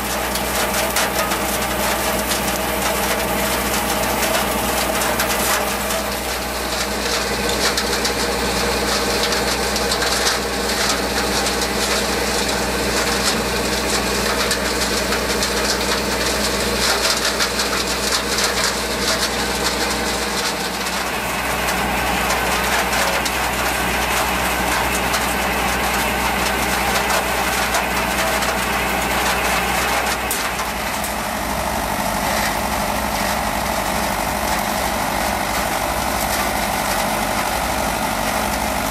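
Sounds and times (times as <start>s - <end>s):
harvester machinery noise: 0.0s - 38.9s
tractor engine running: 0.0s - 38.9s.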